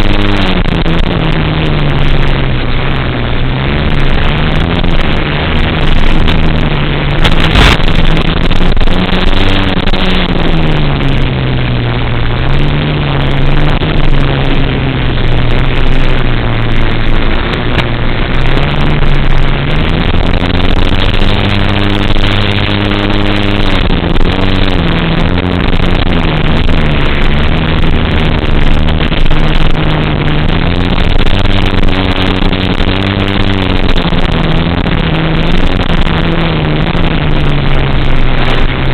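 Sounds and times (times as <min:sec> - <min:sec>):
drone motors and propellers: 0:00.0 - 0:38.9
wind rush: 0:00.0 - 0:38.9.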